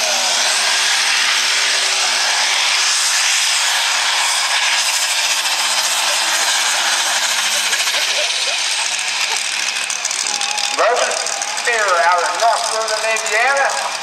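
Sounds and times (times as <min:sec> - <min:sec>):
diesel tractor engine under load: 0:00.0 - 0:14.0.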